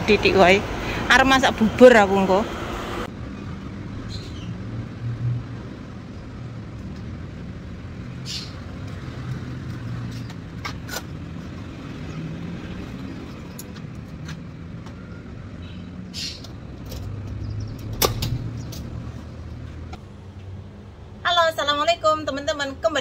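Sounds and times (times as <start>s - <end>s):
rumble of passing vehicles: 0.0s - 23.0s.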